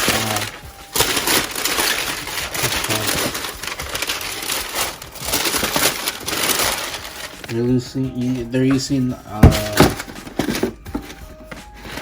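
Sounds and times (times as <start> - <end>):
rustling and crinkling handling noise: 0.0 - 12.0.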